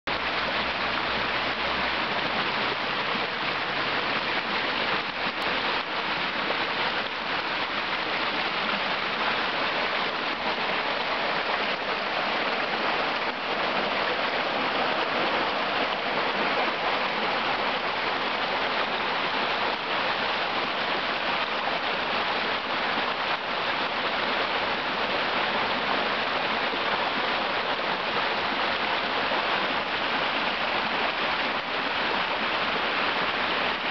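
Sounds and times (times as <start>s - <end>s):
floodwater rushing over ground: 0.1s - 33.9s
rain falling: 0.1s - 33.9s.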